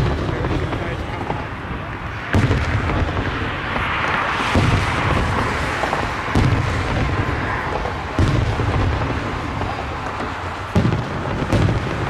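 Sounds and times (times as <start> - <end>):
fireworks booming: 0.0 - 12.0
steady rushing noise: 0.0 - 12.0.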